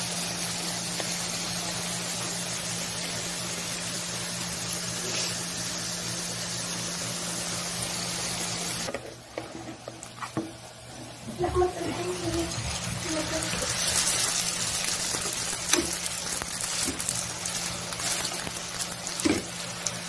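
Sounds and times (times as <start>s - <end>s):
patties sizzling in oil: 0.0s - 20.0s.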